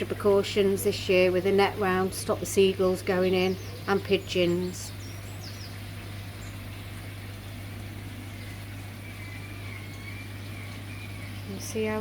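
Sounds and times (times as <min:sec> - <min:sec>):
circulating water hiss: 0:00.0 - 0:12.0
pond pump electrical hum: 0:00.0 - 0:12.0.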